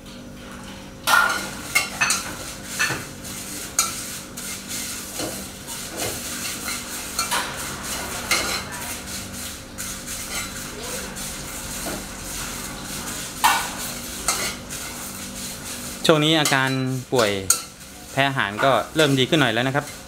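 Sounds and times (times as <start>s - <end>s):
steady low hum: 0.0s - 18.2s
metal spatula scraping wok: 1.6s - 20.0s.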